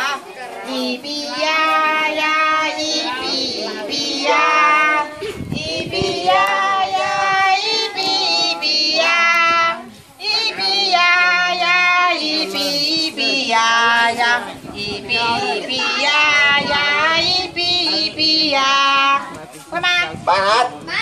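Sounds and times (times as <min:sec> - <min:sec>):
children singing: 0:00.0 - 0:19.2
women singing: 0:00.0 - 0:19.4.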